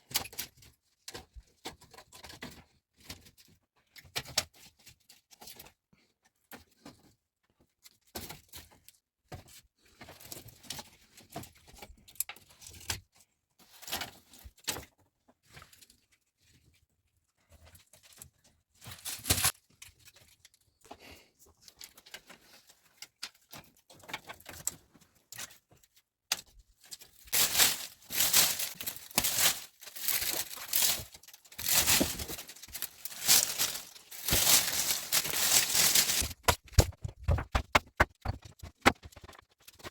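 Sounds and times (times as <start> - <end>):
rustling and crinkling handling: 0.1 - 39.9.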